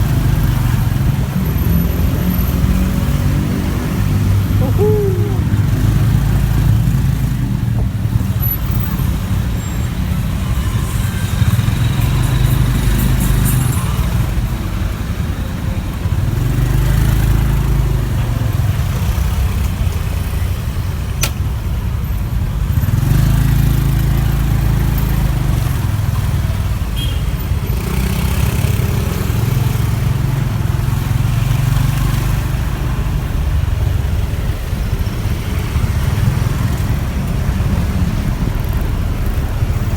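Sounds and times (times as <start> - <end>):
motorbike engine: 0.0 - 39.9
surrounding traffic: 0.0 - 39.9.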